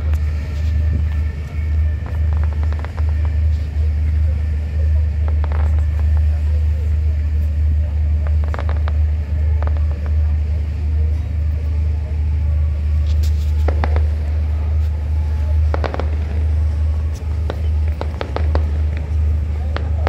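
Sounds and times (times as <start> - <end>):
deep rumble: 0.0 - 20.0.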